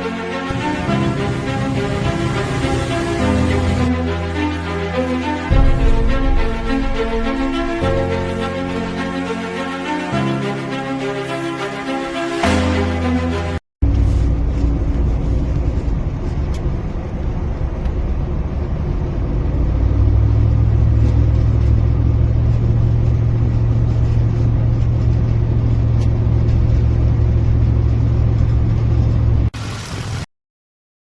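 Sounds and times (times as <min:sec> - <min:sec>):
buggy engine running: 0:00.0 - 0:09.0, 0:13.8 - 0:30.2.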